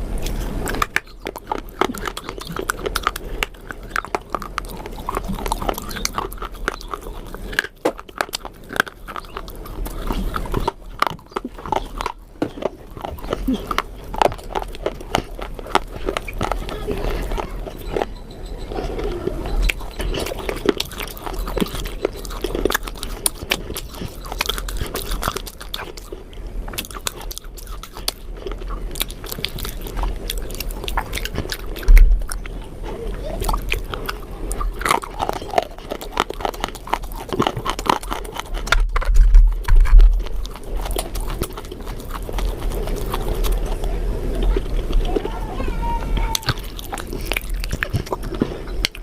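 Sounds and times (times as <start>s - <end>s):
person chewing crunchy food: 0.0s - 49.0s.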